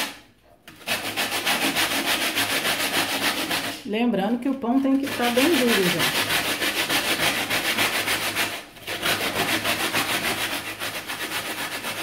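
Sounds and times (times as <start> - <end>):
bread grated on metal grater: 0.0 - 3.9, 4.5 - 12.0.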